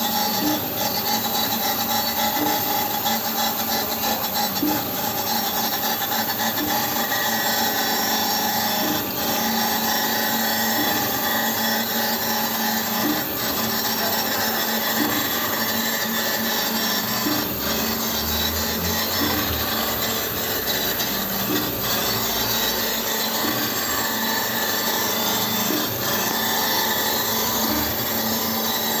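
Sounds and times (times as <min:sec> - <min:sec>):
machine hum: 0:00.0 - 0:29.0
faint regular ticking: 0:00.1 - 0:29.0
grinding wheel rubbing metal: 0:05.5 - 0:29.0.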